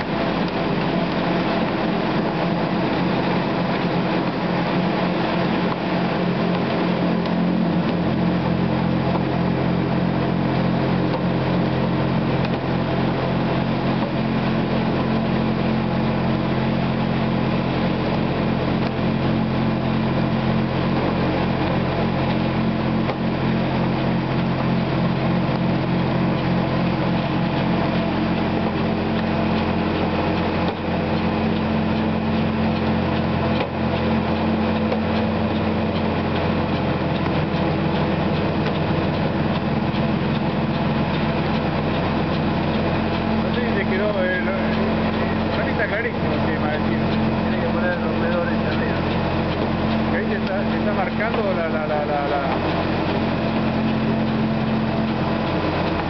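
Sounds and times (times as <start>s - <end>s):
machinery humming: 0.0s - 56.0s.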